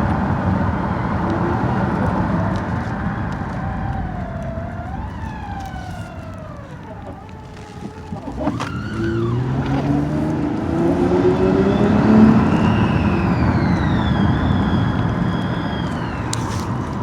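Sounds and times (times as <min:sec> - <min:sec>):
car engine accelerating: 0:00.0 - 0:17.0
transmission whine: 0:00.0 - 0:17.0.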